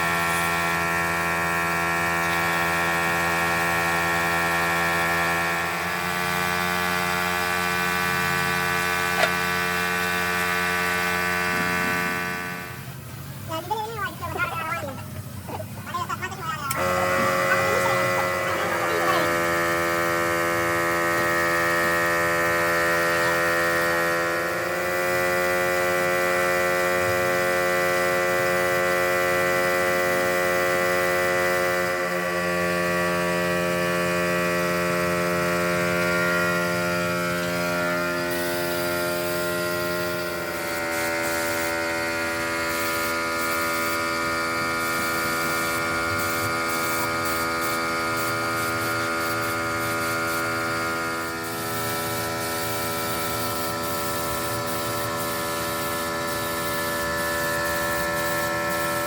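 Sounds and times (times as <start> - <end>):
electric machine hum: 0.0 - 59.0.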